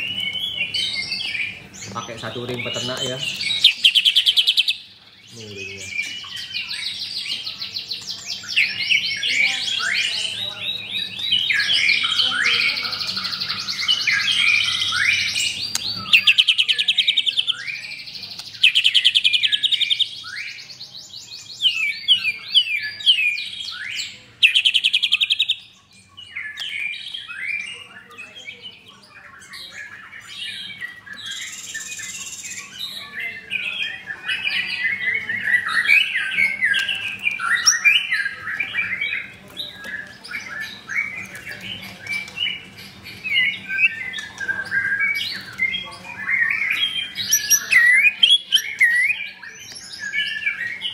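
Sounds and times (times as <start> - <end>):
bird singing trills and whistles: 0.0 - 50.9.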